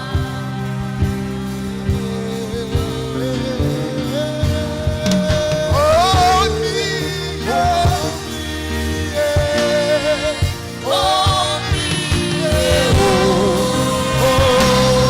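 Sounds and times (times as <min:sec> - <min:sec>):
drum beats: 0:00.0 - 0:15.0
gospel worship song by band: 0:00.0 - 0:15.0
held keyboard chords: 0:00.0 - 0:15.0
person singing: 0:00.0 - 0:15.0.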